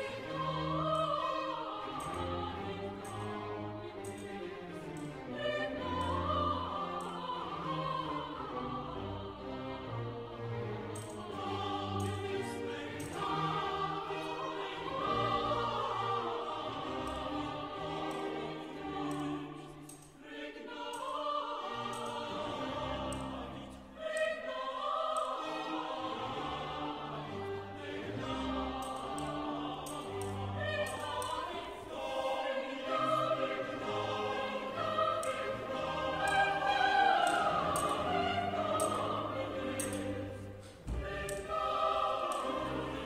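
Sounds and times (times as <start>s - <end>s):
choir singing long notes: 0.0s - 43.0s
orchestral accompaniment: 0.0s - 43.0s.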